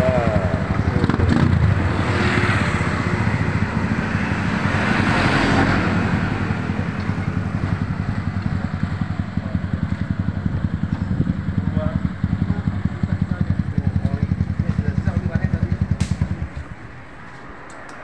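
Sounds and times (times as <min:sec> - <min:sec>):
motorcycle engine idling: 0:00.0 - 0:17.2
passing vehicle: 0:00.0 - 0:18.0.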